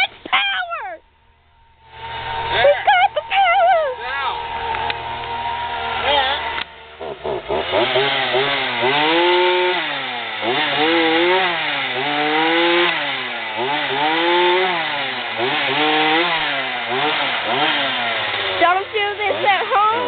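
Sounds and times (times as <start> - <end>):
chainsaw revving: 1.8 - 20.0.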